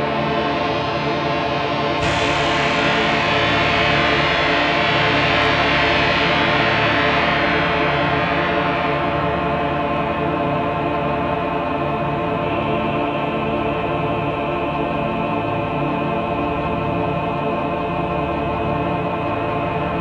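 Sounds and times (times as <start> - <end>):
droning synthesizer chords: 0.0 - 20.0.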